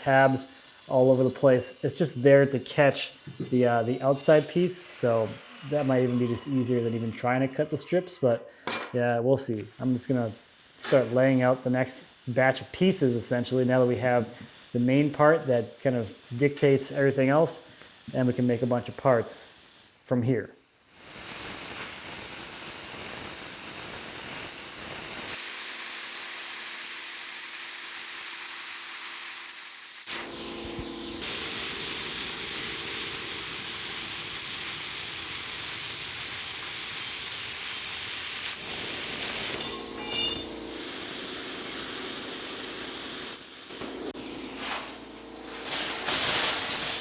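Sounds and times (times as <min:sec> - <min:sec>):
plasma cutter hissing: 0:00.0 - 0:08.4, 0:09.5 - 0:47.0.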